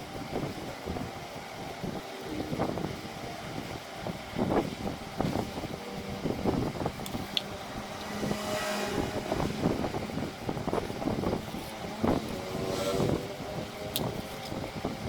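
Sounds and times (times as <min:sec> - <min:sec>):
vehicle engine surging: 0:00.3 - 0:15.0.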